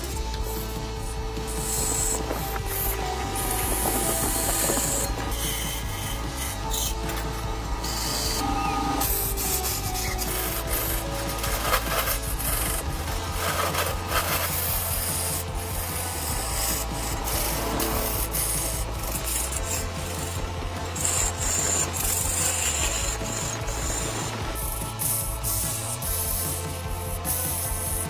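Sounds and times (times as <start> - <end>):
lathe humming: 0.0 - 28.0
lathe tool scraping wood: 0.0 - 28.0.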